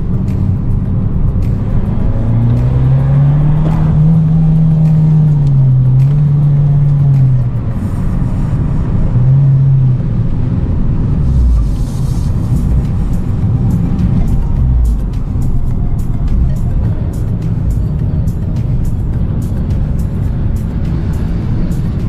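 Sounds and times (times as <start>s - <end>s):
car engine accelerating: 0.0s - 22.0s
road noise: 0.0s - 22.0s.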